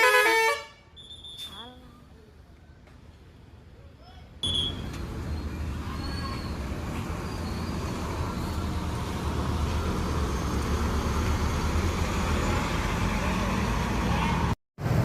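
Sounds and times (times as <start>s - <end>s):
road traffic: 0.0s - 15.0s
bus diesel engine rumbling: 1.6s - 15.0s.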